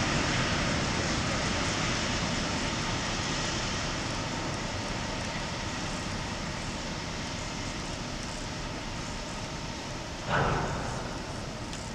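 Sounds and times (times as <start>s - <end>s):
diesel locomotive engine: 0.0s - 11.9s.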